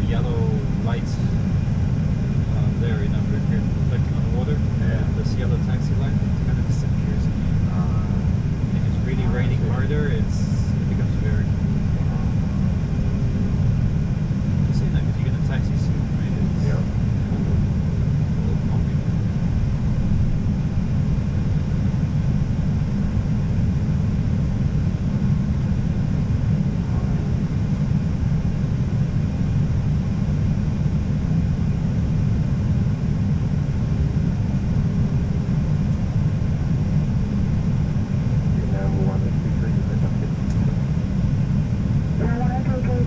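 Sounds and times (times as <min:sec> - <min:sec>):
cockpit low rumble: 0:00.0 - 0:43.0.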